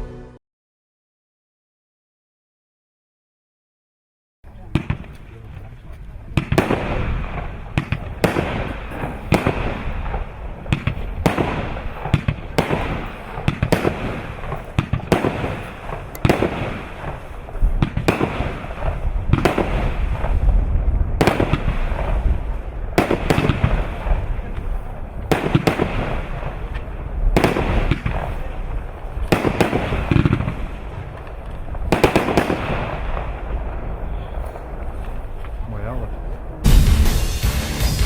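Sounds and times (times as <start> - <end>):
firework crackle and rumble: 4.4 - 38.0
firework bangs: 4.5 - 38.0.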